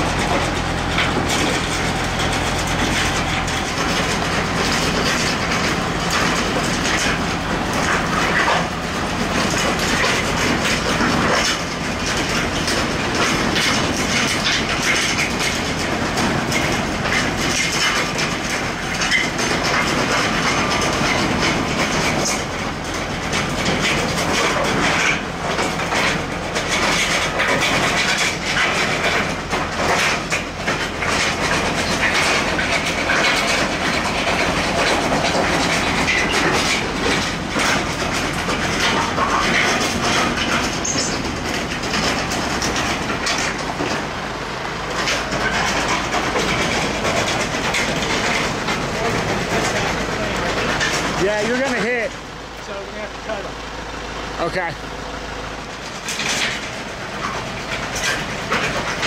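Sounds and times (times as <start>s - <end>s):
metal frame rattling: 0.0s - 44.2s, 44.8s - 53.4s
tractor diesel engine running: 0.0s - 59.0s.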